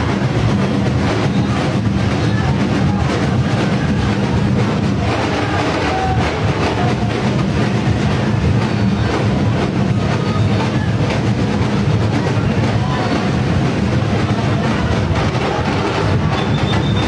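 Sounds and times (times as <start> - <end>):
crowd din: 0.0 - 17.0.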